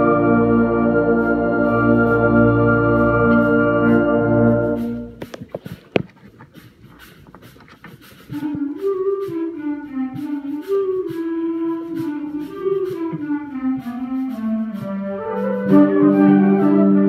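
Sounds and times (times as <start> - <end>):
euphonium solo melody: 0.0 - 5.2, 8.4 - 17.0.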